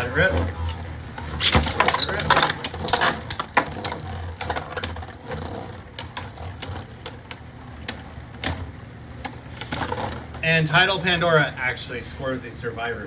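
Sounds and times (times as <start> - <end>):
spinning tops clicking and clacking: 0.0 - 13.0
spinning tops whirring: 0.0 - 13.0.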